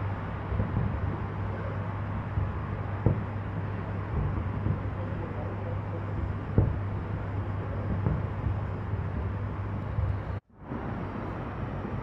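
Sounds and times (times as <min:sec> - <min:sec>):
distant fireworks booming: 0:00.0 - 0:12.0
steady low rumble: 0:00.0 - 0:12.0.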